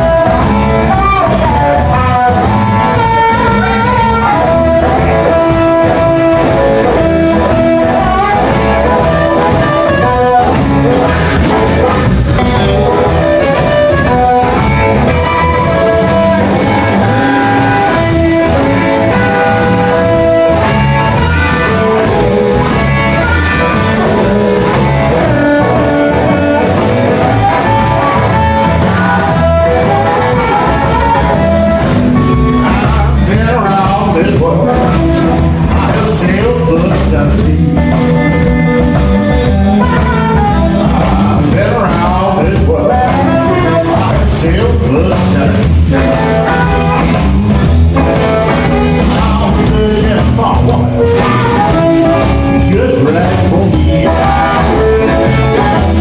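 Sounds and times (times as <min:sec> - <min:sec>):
amplified harmonica: 0:00.0 - 0:56.0
bass guitar: 0:00.0 - 0:56.0
drums: 0:00.0 - 0:56.0
electric guitars: 0:00.0 - 0:56.0.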